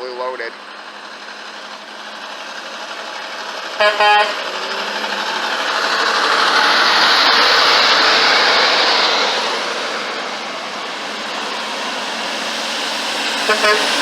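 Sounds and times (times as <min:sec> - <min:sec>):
truck driving past: 0:00.0 - 0:14.0.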